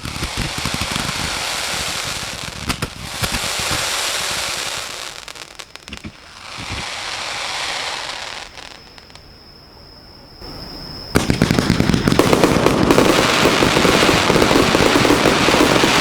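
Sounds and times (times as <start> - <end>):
sharp firework bangs: 0.0 - 7.9, 10.4 - 16.0
fireworks crackling and hissing: 0.0 - 9.4, 10.4 - 16.0.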